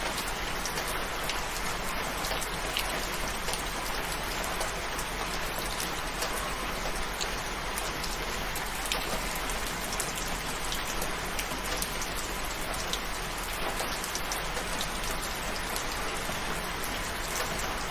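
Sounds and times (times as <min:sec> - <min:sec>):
raindrops ticking: 0:00.0 - 0:17.9.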